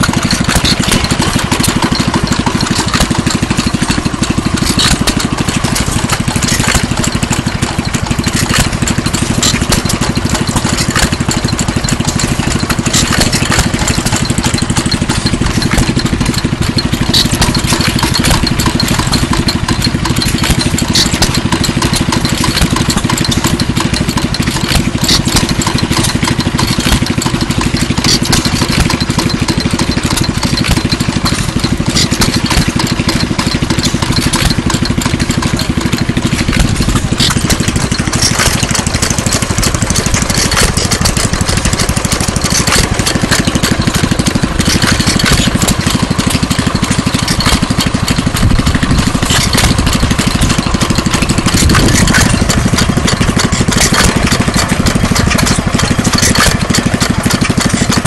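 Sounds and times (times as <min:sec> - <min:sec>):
stationary gas engine running: 0:00.0 - 0:58.0.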